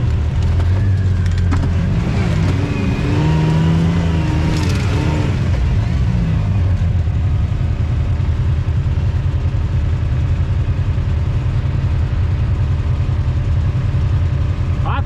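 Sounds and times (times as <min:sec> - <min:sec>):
off-road vehicle engine droning: 0:00.0 - 0:15.0.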